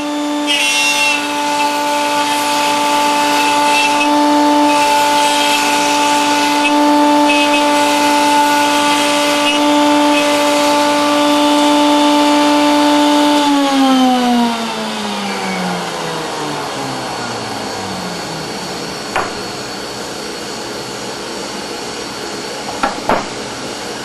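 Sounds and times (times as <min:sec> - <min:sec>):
router whining: 0:00.0 - 0:24.0.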